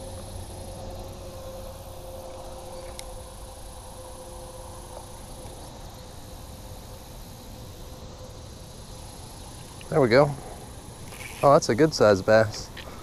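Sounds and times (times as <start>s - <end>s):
high insect buzz: 0.0s - 13.0s.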